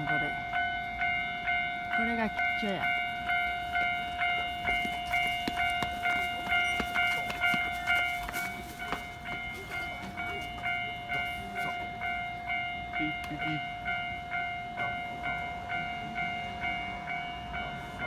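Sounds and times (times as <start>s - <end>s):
level crossing warning bell: 0.0s - 18.0s.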